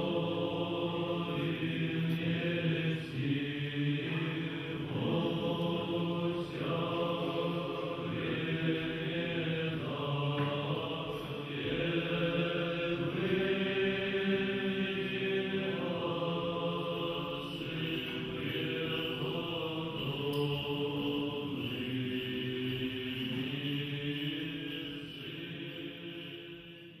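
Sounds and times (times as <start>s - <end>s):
men chanting: 0.0s - 26.6s.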